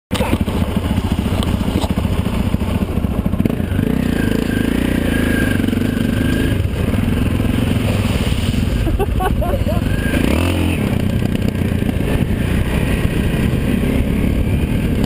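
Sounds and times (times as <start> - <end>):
motorcycle engine running: 0.1 - 15.0.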